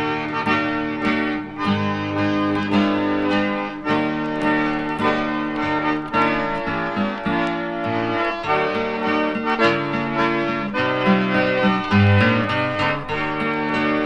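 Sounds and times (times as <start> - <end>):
accordion chords: 0.0 - 14.0
plucked guitar: 0.0 - 14.0.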